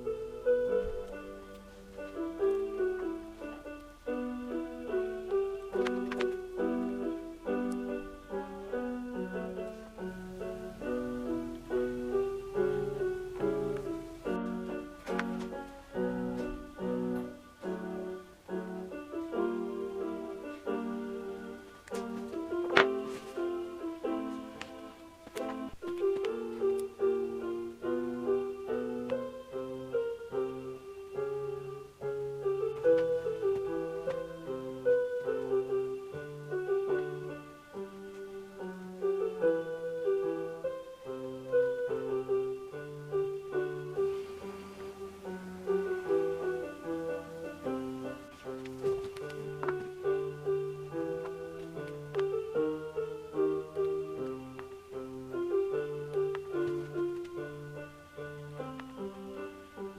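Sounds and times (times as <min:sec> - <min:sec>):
slow solo piano melody: 0:00.0 - 0:59.9.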